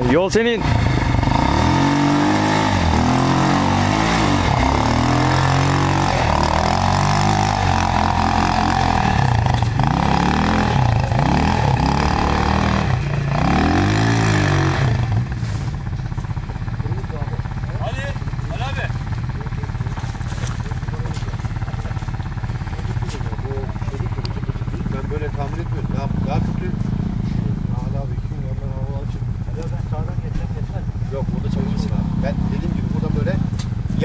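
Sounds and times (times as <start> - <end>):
quad bike engine revving: 0.0 - 34.0.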